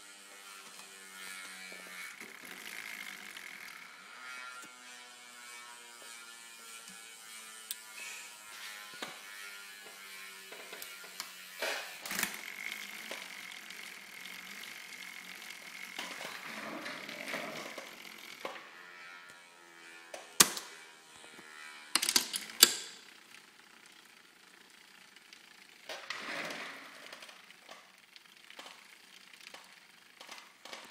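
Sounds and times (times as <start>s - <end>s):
bicycle chain whirring through roller: 0.0s - 30.9s.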